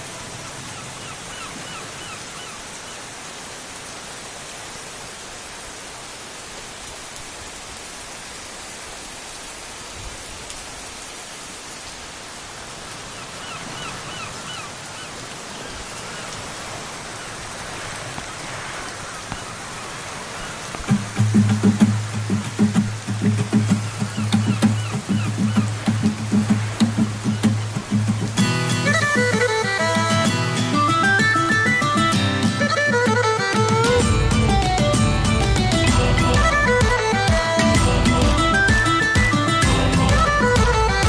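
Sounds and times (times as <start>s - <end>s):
heavy rain on standing water: 0.0s - 41.0s.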